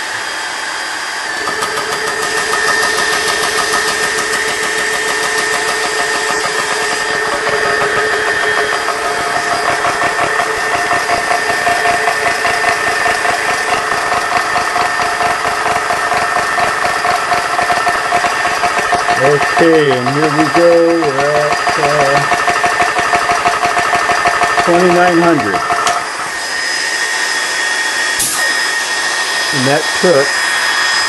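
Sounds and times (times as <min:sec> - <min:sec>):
air compressor pump pulsing: 0:00.0 - 0:31.0
cooling fan whine: 0:00.0 - 0:31.0.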